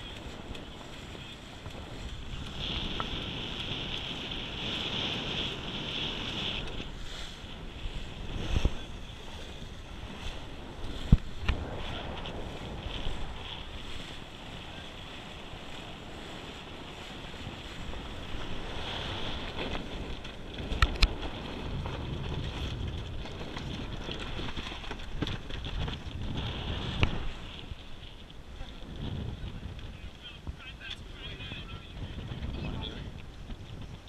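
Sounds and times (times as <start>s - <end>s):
water rushing along hull: 0.0s - 34.0s
wind buffeting microphone: 0.0s - 34.0s.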